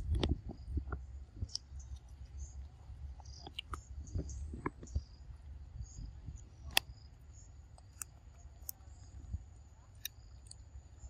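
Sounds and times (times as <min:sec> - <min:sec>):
monkeys eating with soft clicks: 0:00.0 - 0:11.0.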